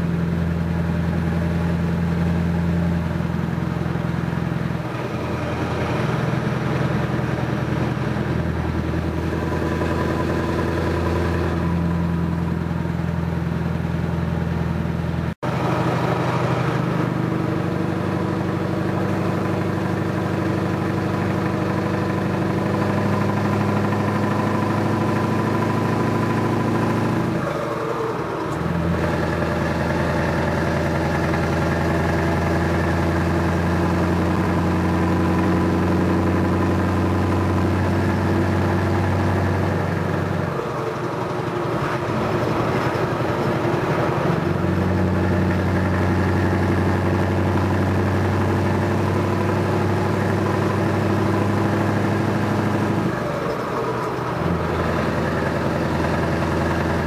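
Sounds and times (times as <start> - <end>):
truck diesel engine pulling: 0.0 - 57.0.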